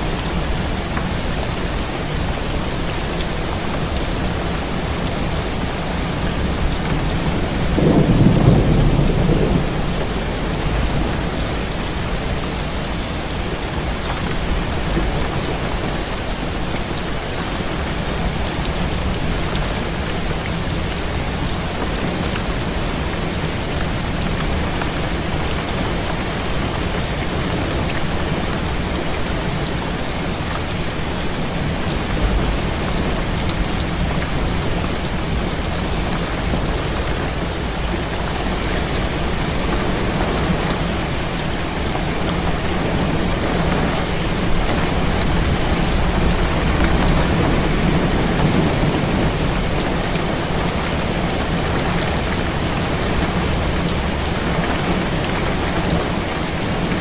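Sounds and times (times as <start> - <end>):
heavy rain falling: 0.0 - 57.0
low rumble of thunder: 3.8 - 16.2, 18.0 - 56.0.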